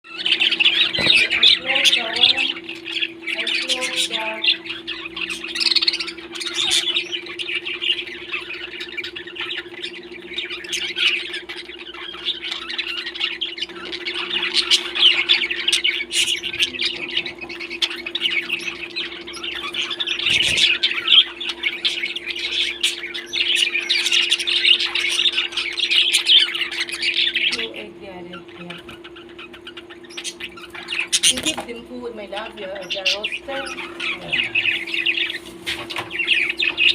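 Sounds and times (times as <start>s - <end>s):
parrots squawking and chattering: 0.0s - 36.9s
steady low hum: 0.0s - 36.9s.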